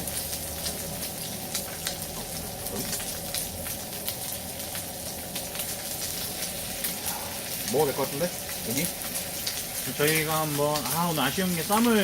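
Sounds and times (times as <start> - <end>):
fat crackling and popping: 0.0 - 12.0
pork sizzling on a grill pan: 0.0 - 12.0.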